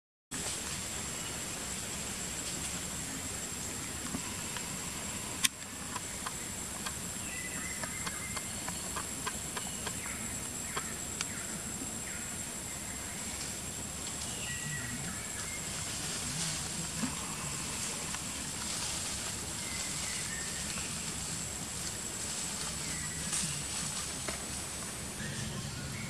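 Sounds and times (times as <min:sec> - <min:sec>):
high insect drone: 0:00.4 - 0:26.0.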